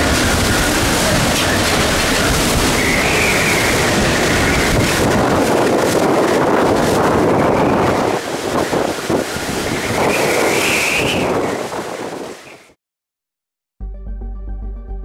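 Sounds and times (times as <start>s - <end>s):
strong wind on microphone: 0.0s - 12.8s.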